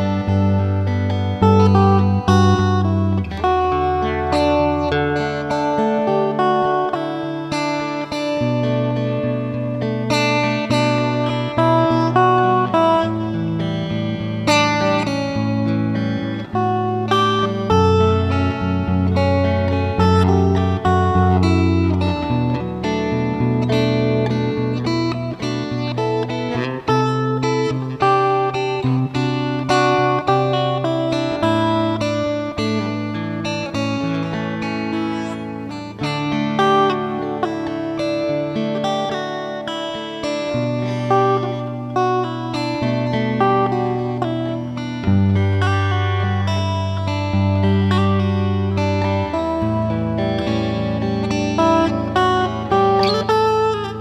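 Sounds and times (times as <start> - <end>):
plucked guitar melody: 0.0 - 54.0.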